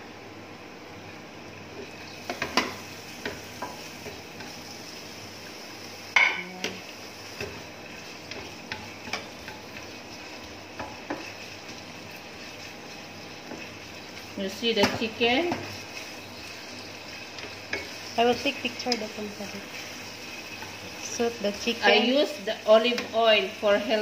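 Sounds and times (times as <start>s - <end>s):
chicken sizzling in oil: 0.9s - 24.0s.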